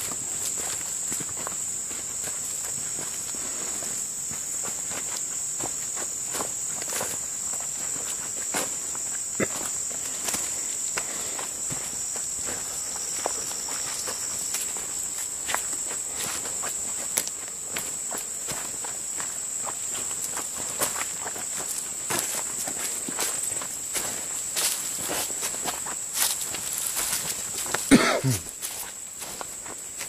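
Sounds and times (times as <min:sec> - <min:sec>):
footsteps crunching on leaf litter: 0:00.0 - 0:30.0
insect chorus: 0:00.0 - 0:30.0.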